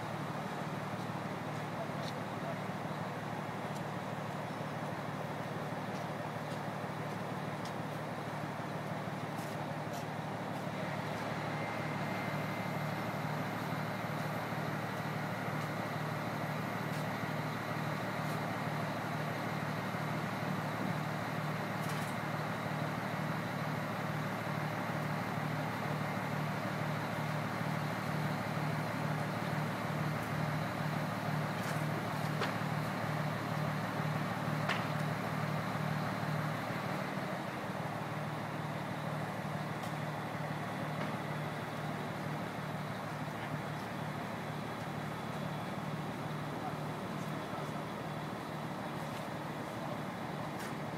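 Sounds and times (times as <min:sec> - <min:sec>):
crane engine throbbing: 0:08.2 - 0:50.9.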